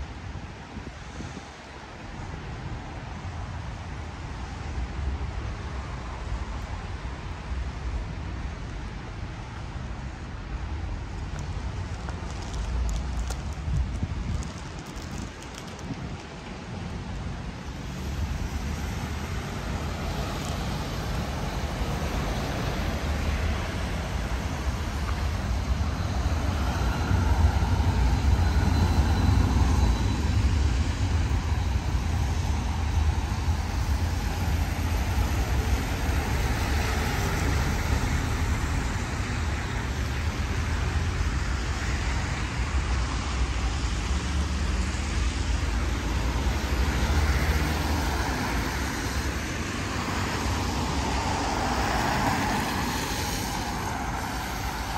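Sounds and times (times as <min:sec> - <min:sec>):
vehicles passing: 0:02.3 - 0:54.9.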